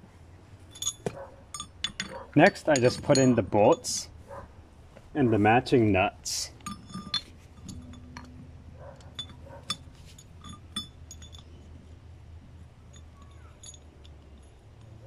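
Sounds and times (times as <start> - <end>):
metal bolts clinking: 0.6 - 4.2, 6.2 - 15.0.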